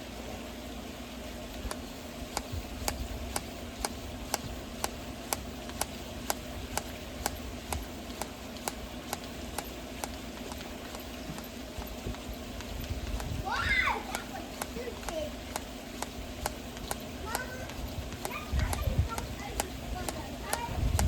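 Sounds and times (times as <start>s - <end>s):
hand ball pump clicking: 1.5s - 13.4s, 14.0s - 21.0s.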